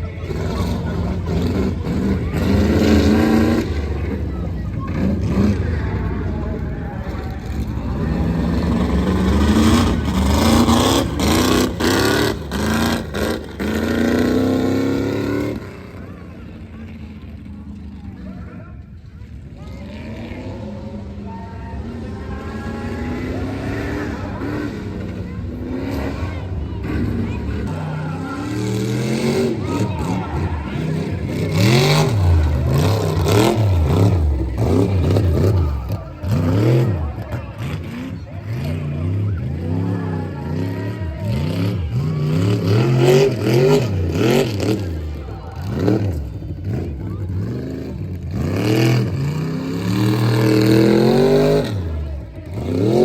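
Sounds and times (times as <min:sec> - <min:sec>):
truck engine revving: 0:00.0 - 0:18.2, 0:18.9 - 0:53.0.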